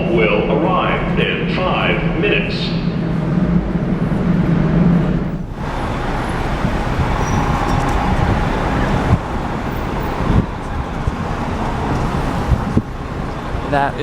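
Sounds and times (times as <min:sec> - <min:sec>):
passing cars: 0:00.0 - 0:14.0.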